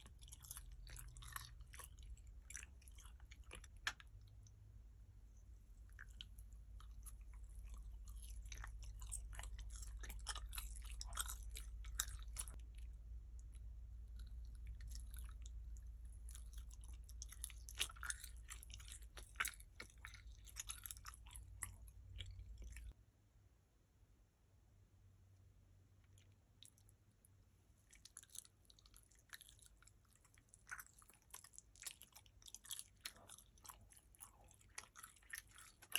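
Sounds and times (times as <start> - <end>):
chewing gummy candy: 0.0 - 4.8, 5.4 - 23.0, 26.0 - 35.9.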